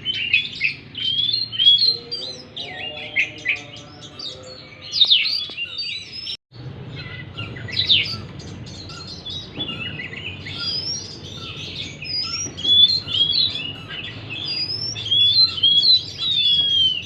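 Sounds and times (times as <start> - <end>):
magpie-robin singing: 0.0 - 17.0.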